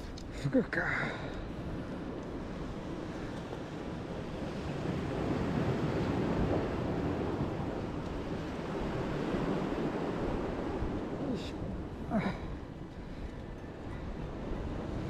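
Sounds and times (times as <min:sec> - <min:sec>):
wind on microphone: 0:01.1 - 0:15.0.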